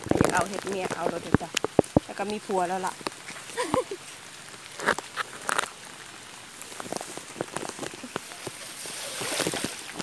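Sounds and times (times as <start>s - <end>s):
rain falling on water: 0.0s - 10.0s.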